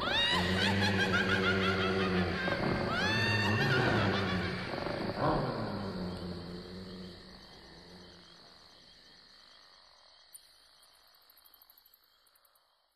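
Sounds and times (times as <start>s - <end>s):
insects trilling: 0.0s - 12.9s.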